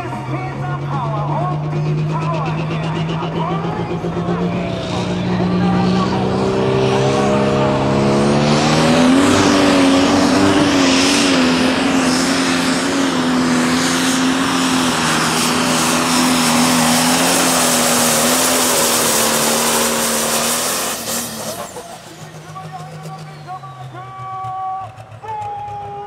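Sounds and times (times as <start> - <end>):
diesel engine at full throttle: 0.0 - 26.0.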